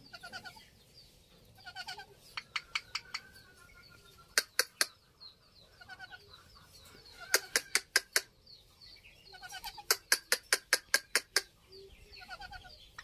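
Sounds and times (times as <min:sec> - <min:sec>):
parakeets calling: 0:00.0 - 0:00.8, 0:01.6 - 0:13.0
parakeets chattering softly: 0:00.0 - 0:00.8, 0:01.5 - 0:13.0.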